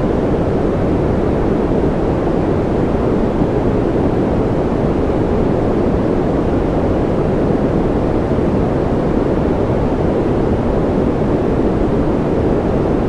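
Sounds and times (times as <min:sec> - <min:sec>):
deep white noise: 0:00.0 - 0:13.0.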